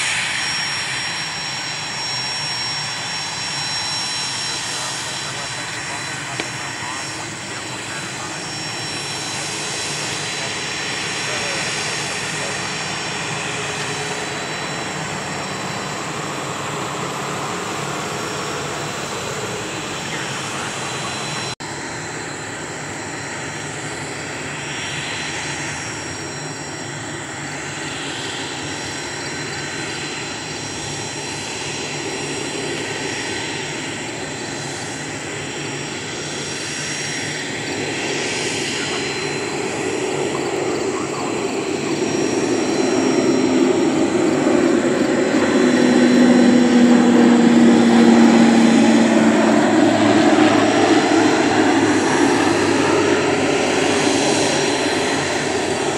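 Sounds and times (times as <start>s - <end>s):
jet engines whining: 0.0s - 55.9s.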